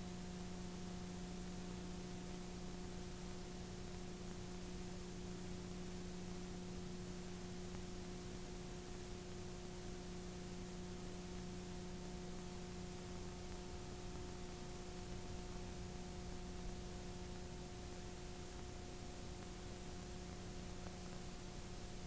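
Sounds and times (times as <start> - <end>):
tape hiss: 0.0 - 22.0.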